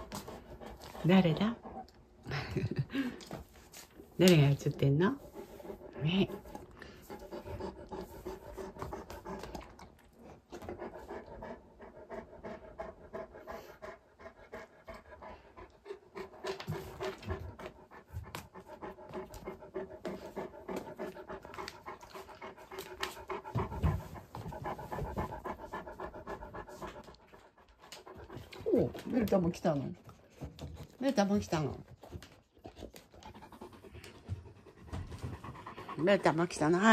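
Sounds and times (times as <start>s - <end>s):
dog panting: 0.0s - 36.9s.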